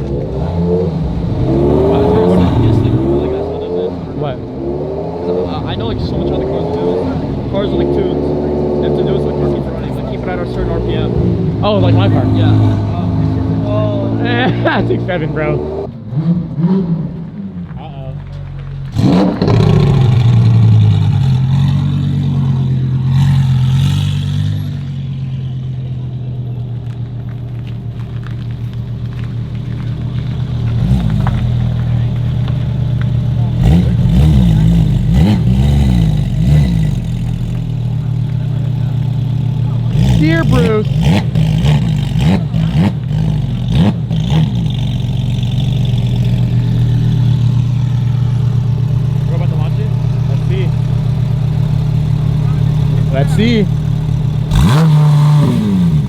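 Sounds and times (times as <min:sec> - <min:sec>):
car engine droning and revving: 0:00.0 - 0:56.0.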